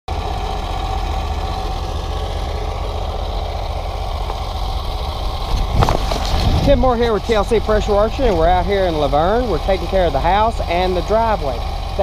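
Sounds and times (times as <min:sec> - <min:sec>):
pressure washer engine running: 0:00.1 - 0:12.0.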